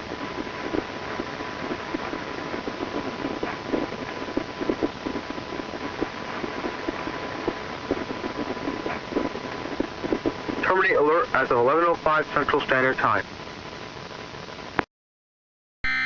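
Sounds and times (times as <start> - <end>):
crackling pops: 0.0 - 14.9
static hiss: 0.0 - 14.9.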